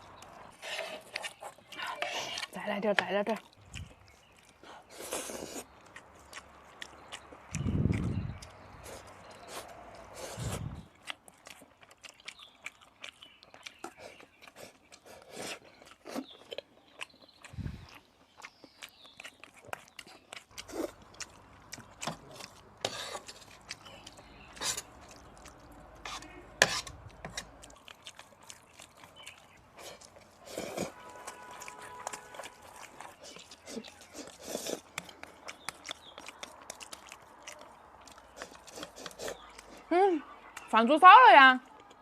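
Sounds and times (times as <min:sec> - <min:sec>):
person chewing food: 0:00.0 - 0:40.7, 0:41.6 - 0:42.0.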